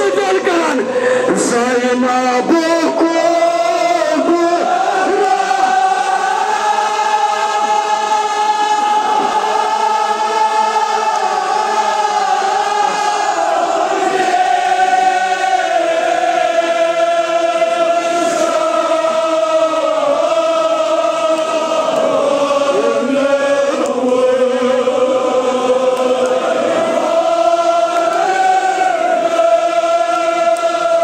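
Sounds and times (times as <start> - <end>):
men chanting in unison: 0.0 - 31.0.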